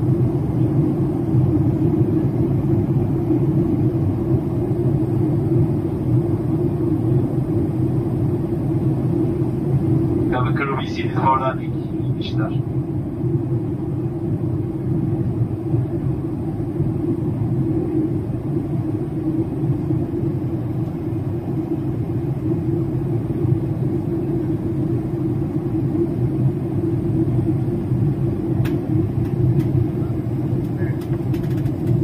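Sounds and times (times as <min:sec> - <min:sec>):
airliner cabin engine and airflow rumble: 0:00.0 - 0:32.0.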